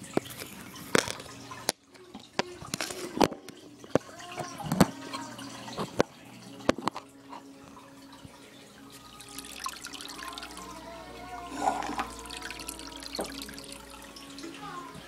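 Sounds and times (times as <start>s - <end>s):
aquarium water trickling: 0.0s - 15.0s.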